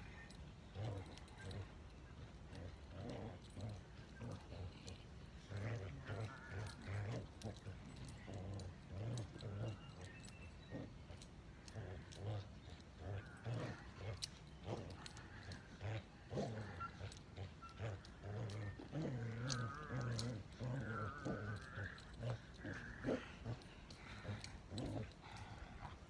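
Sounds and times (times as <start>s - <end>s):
dog growling: 0.0s - 26.0s.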